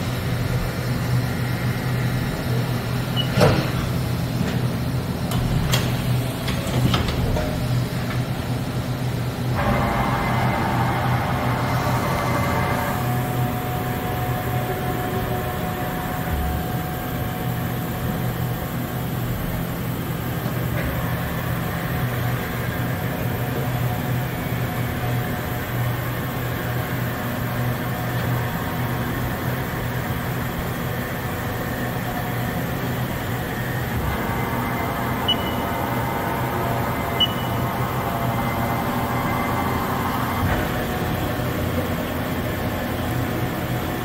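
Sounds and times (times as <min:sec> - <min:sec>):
shop machinery humming: 0:00.0 - 0:44.0.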